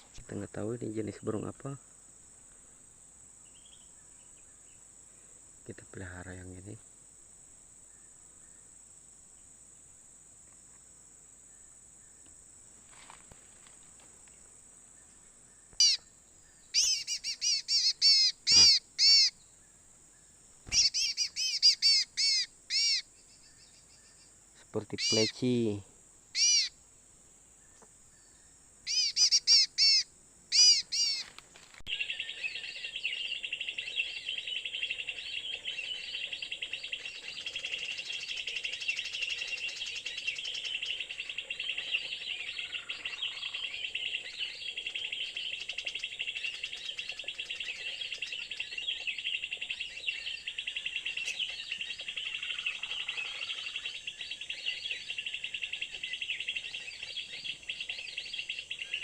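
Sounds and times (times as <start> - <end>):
birds chirping and twittering: 0.0 - 6.8, 11.6 - 25.8, 26.4 - 26.8, 27.6 - 59.0.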